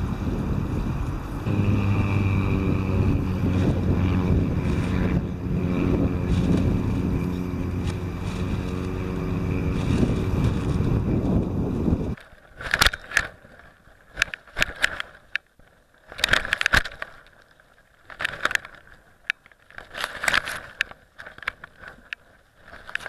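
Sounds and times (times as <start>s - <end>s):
action camera rattling and clicking: 2.8s - 23.0s.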